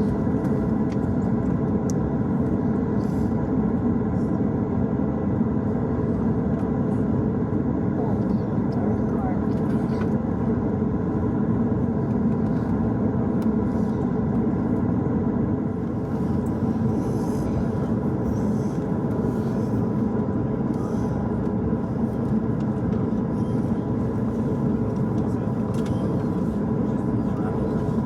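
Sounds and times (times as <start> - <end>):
aircraft cabin rumble: 0.0 - 28.0.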